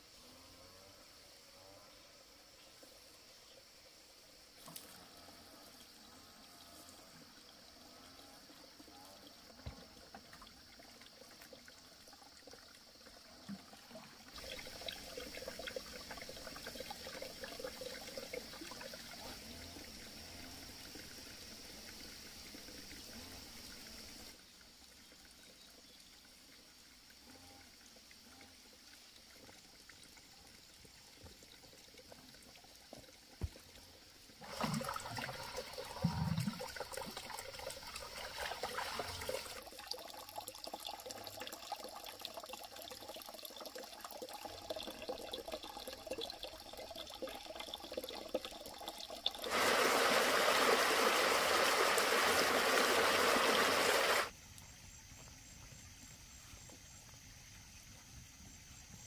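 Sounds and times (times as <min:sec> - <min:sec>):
water pouring and trickling: 0:02.6 - 0:54.3.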